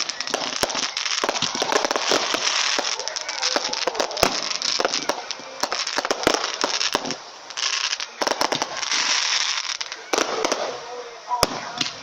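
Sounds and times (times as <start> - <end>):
fireworks crackling and popping: 0.0 - 12.0
steady hiss: 0.0 - 12.0.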